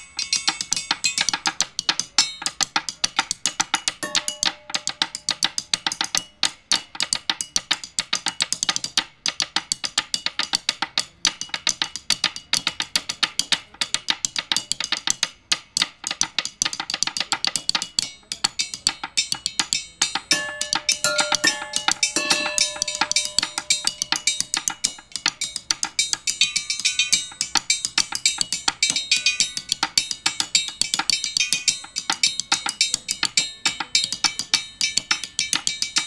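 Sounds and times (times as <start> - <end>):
mallets striking metal tubes: 0.0 - 36.0.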